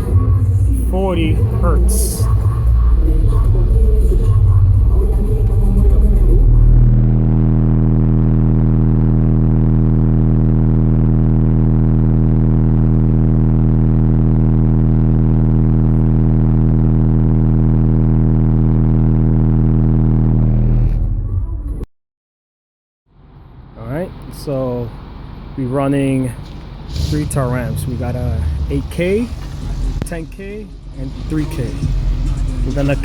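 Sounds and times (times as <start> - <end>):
loud low bass tone: 0.0 - 21.9, 23.4 - 33.0.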